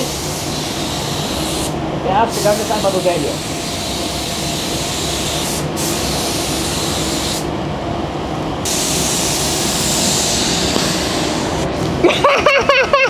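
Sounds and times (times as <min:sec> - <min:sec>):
paint spray gun hissing: 0:00.0 - 0:07.6, 0:08.6 - 0:12.0.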